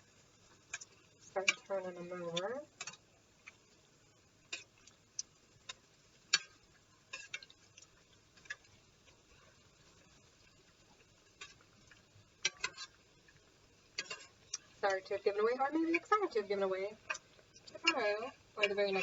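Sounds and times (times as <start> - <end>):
dough frying in oil: 0.0 - 19.0
oil popping and crackling: 0.0 - 19.0.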